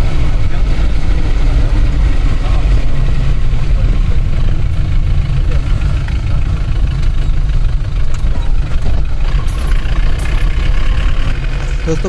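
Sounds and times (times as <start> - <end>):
road noise: 0.0 - 12.0
van engine rumble: 0.0 - 12.0.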